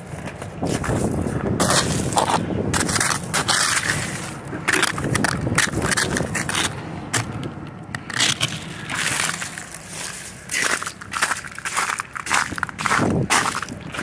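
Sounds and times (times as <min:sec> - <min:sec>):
ice crunching and cracking: 0:00.0 - 0:14.0.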